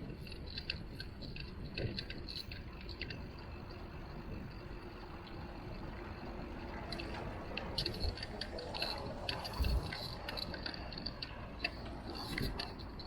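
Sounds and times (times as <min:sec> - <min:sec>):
bicycle clicks and rattles: 0:00.0 - 0:13.0
rumble of tyres and wind: 0:00.0 - 0:13.0.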